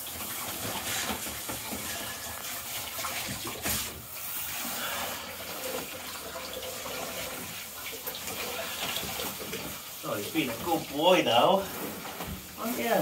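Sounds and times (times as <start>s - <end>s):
shower water spraying: 0.0s - 13.0s.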